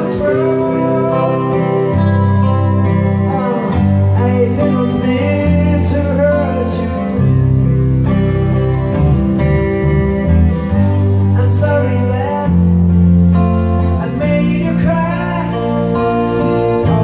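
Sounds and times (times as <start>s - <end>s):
man singing: 0.0s - 7.9s, 11.3s - 17.0s
bass guitar: 0.0s - 17.0s
electric guitar: 0.0s - 17.0s.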